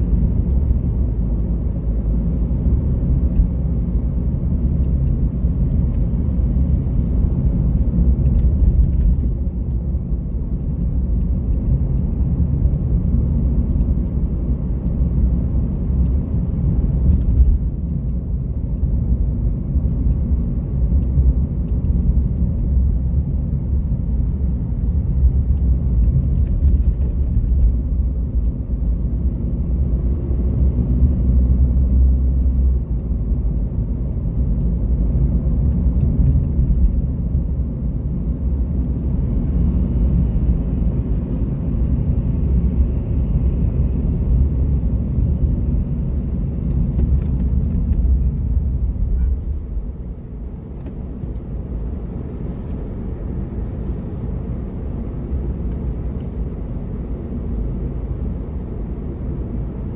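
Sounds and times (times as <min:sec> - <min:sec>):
car engine rumble: 0:00.0 - 0:59.9
tyre noise on road: 0:00.0 - 0:59.9.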